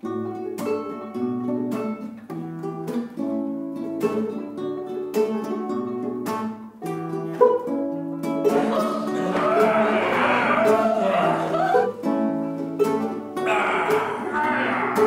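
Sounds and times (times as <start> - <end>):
classical guitar: 0.0 - 15.0
mandolin plucking: 0.0 - 15.0.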